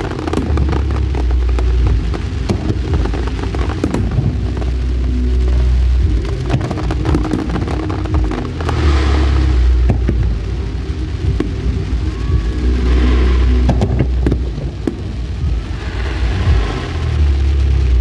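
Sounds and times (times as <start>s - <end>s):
firework booms: 0.0s - 18.0s
firework cracks and crackling: 0.0s - 18.0s.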